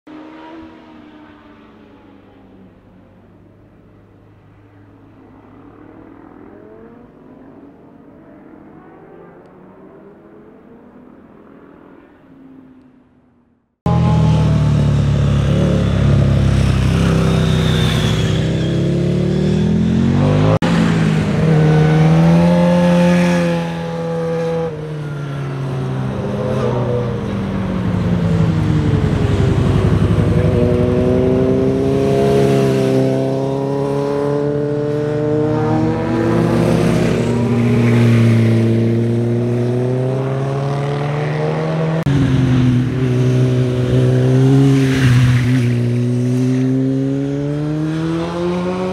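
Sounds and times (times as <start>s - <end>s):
motorcycle engines passing: 0.1s - 48.9s.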